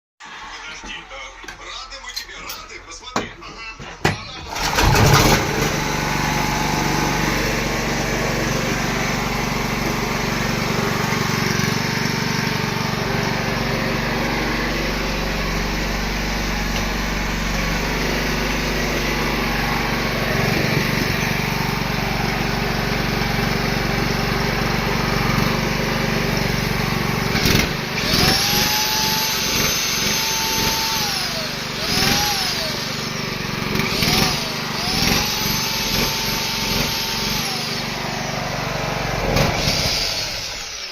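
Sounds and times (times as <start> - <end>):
generator engine running: 0.2 - 40.9.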